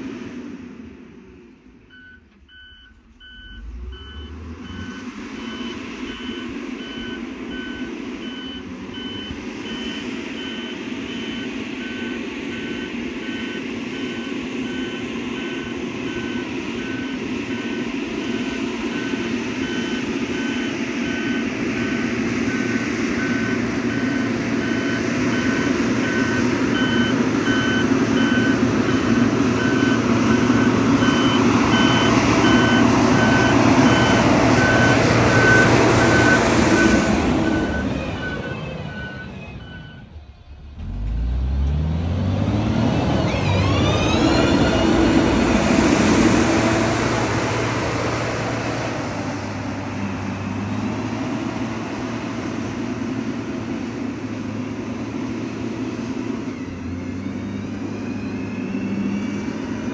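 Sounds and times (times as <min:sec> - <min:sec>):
diesel engine running: 0:00.0 - 0:59.9
reversing alarm beeping: 0:01.9 - 0:40.8, 0:42.5 - 0:59.9.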